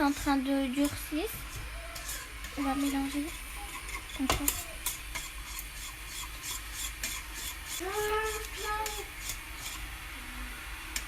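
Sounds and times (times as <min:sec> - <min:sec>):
utensil scraping a saucepan: 0:00.0 - 0:09.9.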